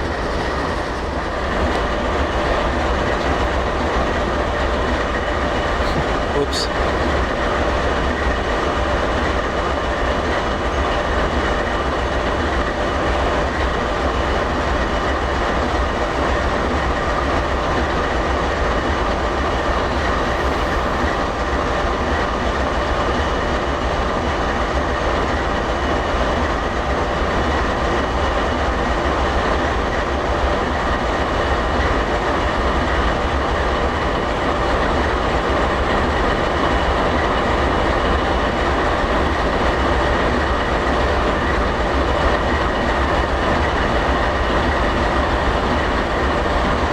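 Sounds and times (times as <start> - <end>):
train rumbling on rails: 0.0 - 46.9.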